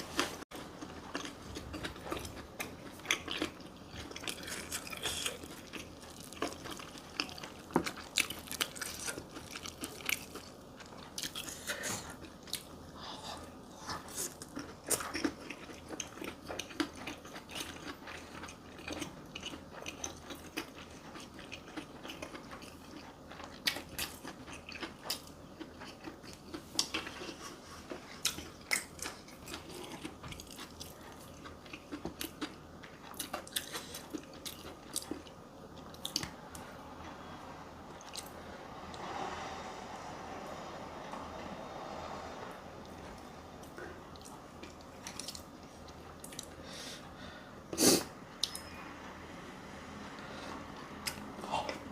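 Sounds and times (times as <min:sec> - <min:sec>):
person chewing and crunching food: 0:00.0 - 0:48.8, 0:50.0 - 0:51.9.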